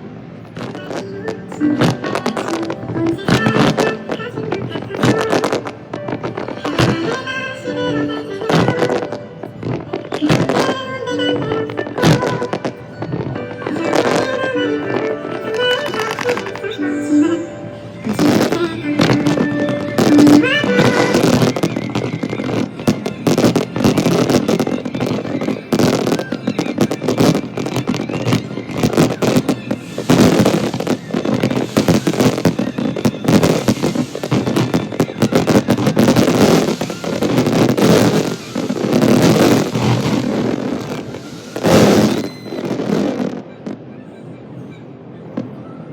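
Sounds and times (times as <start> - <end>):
fireworks bangs and crackling: 0.0 - 45.6.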